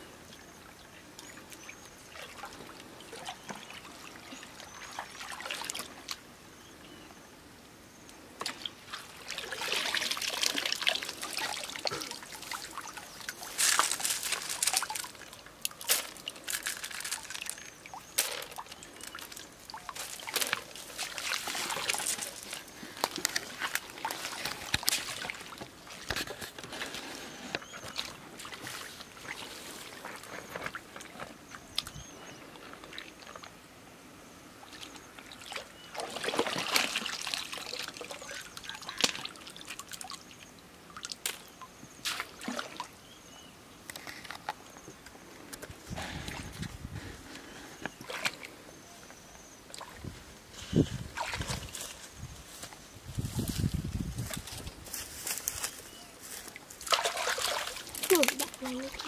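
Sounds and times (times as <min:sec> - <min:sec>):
stream water sloshing and trickling: 0:00.0 - 0:07.0, 0:08.2 - 0:59.0.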